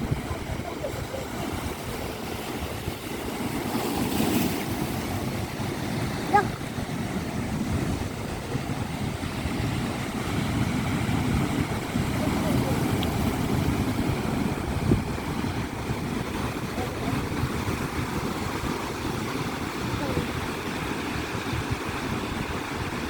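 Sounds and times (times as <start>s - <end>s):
sea waves washing in: 0.0s - 23.0s
wind buffeting microphone: 0.0s - 23.0s.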